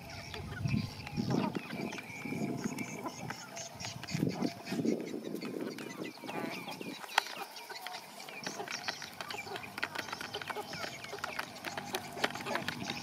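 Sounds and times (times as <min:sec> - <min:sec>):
beaks tapping plastic bowls: 0:00.0 - 0:13.0
chickens chirping: 0:00.0 - 0:13.0.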